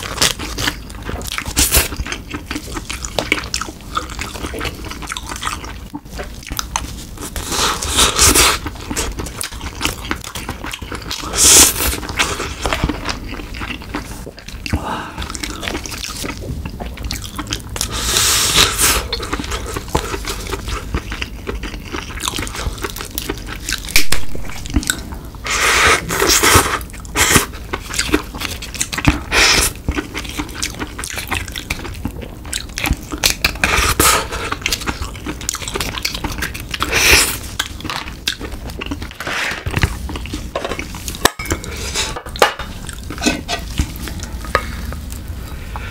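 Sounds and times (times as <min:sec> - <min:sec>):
wet chewing and biting: 0:00.0 - 0:25.3, 0:25.9 - 0:45.9.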